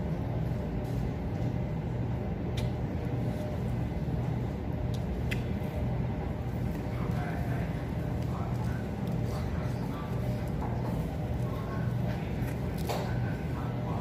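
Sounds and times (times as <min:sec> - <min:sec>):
low droning hum: 0:00.0 - 0:14.0.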